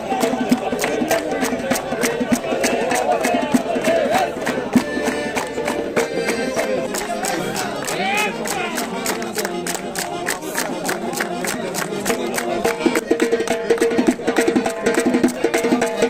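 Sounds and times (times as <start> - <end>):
accordion dance music: 0.0 - 16.0
crowd voices: 0.0 - 16.0
sharp percussive beat: 0.0 - 16.0.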